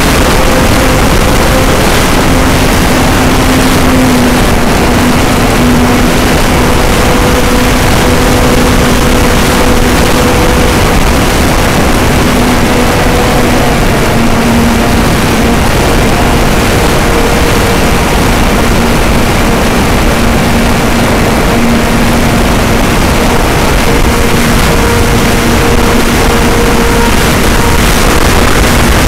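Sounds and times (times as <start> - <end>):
model plane motor drone: 0.0 - 29.0
wind buffeting microphone: 0.0 - 29.0.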